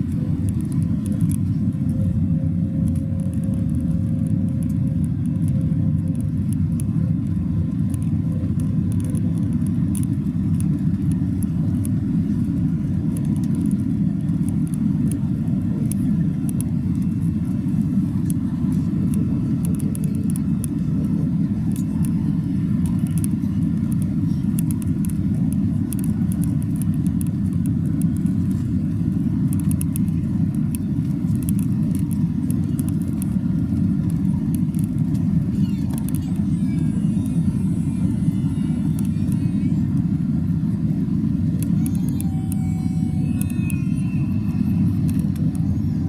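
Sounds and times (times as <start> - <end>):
airflow over aircraft fuselage: 0.0 - 46.0
jet engines droning: 0.0 - 46.0.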